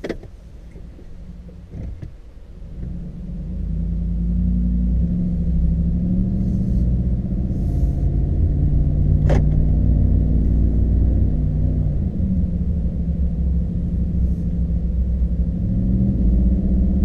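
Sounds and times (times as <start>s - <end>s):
deep exhaust rumble: 0.3s - 17.0s.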